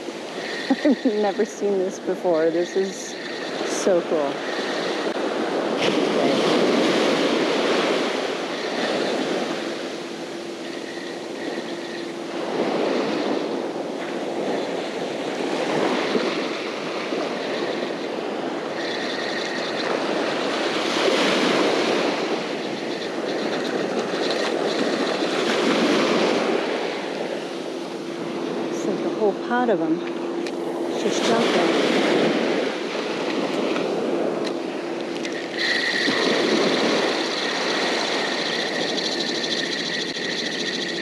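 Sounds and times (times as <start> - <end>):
ocean surf breaking: 0.0 - 41.0.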